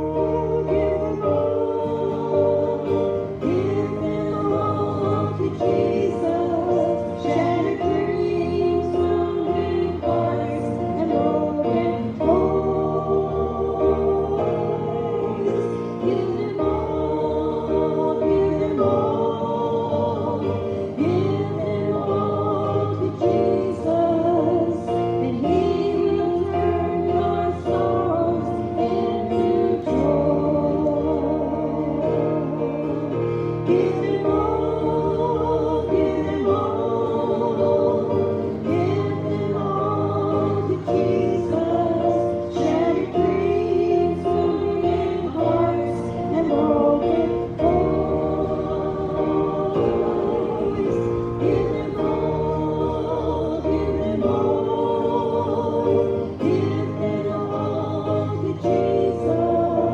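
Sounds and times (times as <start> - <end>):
group singing gospel hymn: 0.0 - 59.9
instrumental accompaniment: 0.0 - 59.9.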